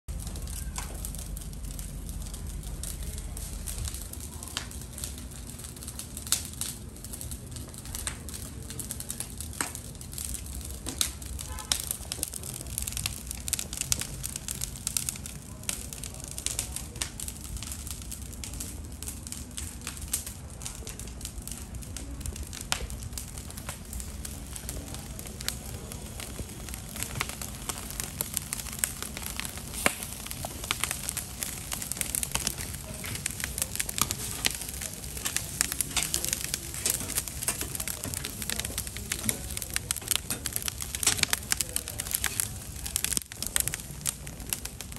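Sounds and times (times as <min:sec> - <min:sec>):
charcoal fire crackling: 0:00.1 - 0:44.9
low steady hum: 0:00.1 - 0:44.9.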